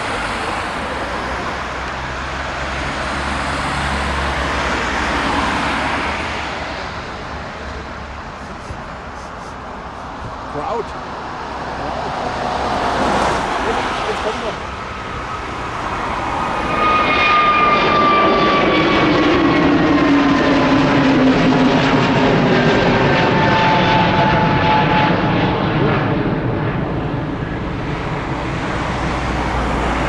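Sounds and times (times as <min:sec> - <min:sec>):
jet airliner taking off: 0:00.0 - 0:30.0.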